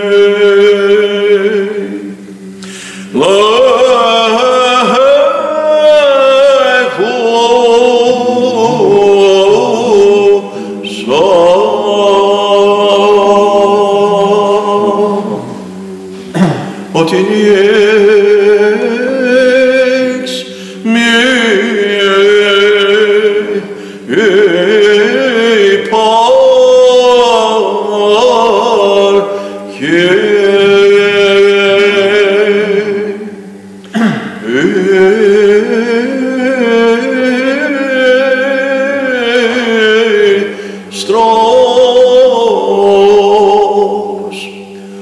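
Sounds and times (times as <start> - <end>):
man chanting a winding melody: 0.0 - 33.4, 34.3 - 44.8.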